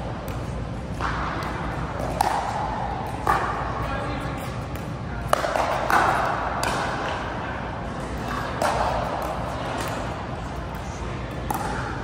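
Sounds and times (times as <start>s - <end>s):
indoor hall noise: 0.0s - 12.0s.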